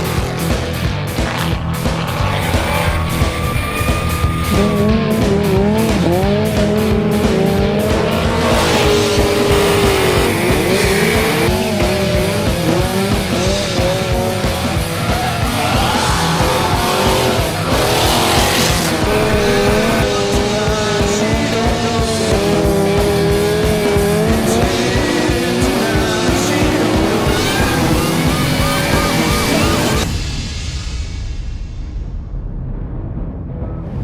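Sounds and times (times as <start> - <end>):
tyres squealing: 0.0 - 30.0
car engine revving: 0.0 - 30.3
loud music: 0.0 - 31.2.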